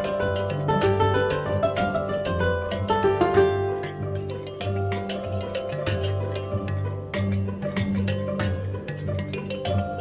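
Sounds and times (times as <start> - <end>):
plucked notes: 0.0 - 10.0.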